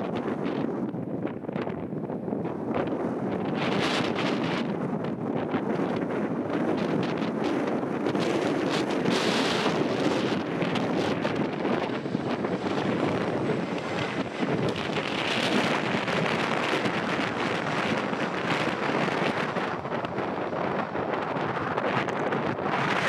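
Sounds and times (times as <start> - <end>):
jet airliner engine noise: 0.0 - 23.0
wind buffeting microphone: 0.0 - 23.0.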